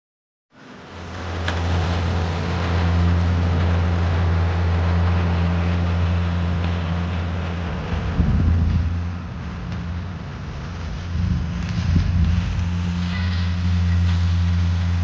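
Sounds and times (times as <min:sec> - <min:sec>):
engine droning hum: 0:00.5 - 0:15.0.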